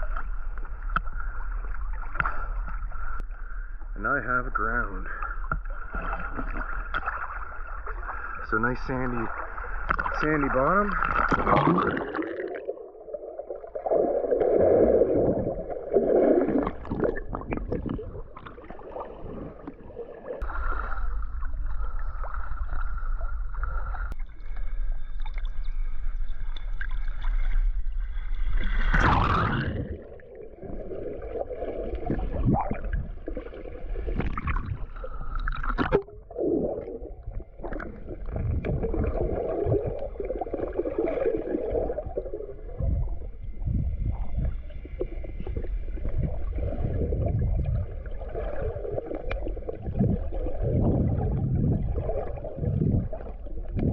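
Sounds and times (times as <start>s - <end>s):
water sloshing and gurgling: 0.0s - 53.9s
water splashes: 4.1s - 25.8s, 26.5s - 53.9s.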